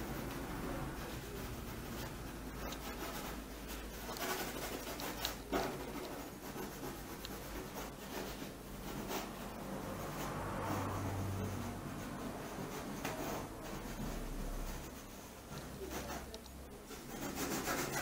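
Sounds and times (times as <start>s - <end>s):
drawing tool scratching on board: 0.0s - 18.0s.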